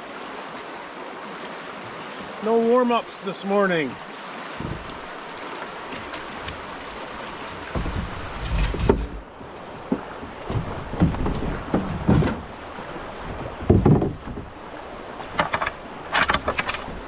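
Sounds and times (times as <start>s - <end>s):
paddle splashes and thuds: 0.0s - 17.0s
river current rushing: 0.0s - 17.0s.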